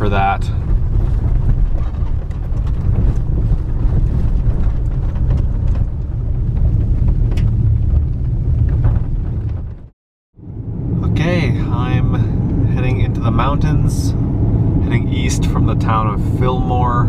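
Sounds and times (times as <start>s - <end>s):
car tyres and engine rumbling: 0.0s - 17.0s.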